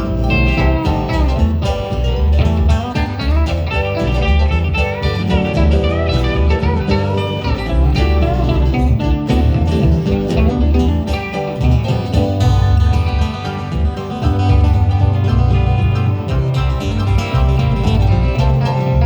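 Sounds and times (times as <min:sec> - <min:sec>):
instrumental country music: 0:00.0 - 0:19.0.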